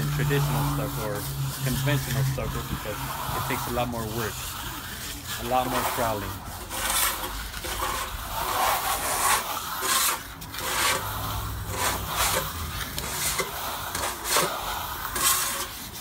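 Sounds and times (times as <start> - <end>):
steel trowel scraping plaster: 0.0 - 16.0.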